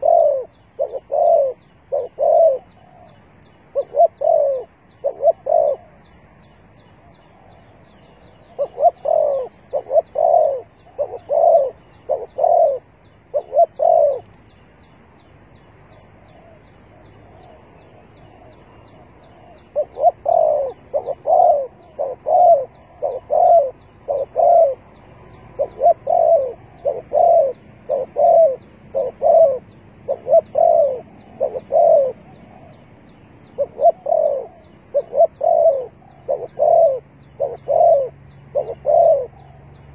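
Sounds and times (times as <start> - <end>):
dove cooing: 0.0 - 6.2, 7.0 - 14.4, 15.9 - 39.9.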